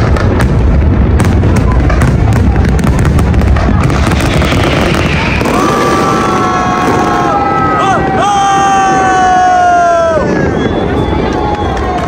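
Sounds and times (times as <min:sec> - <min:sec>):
deep rumble: 0:00.0 - 0:12.0
fireworks crackling and booming: 0:00.0 - 0:12.0.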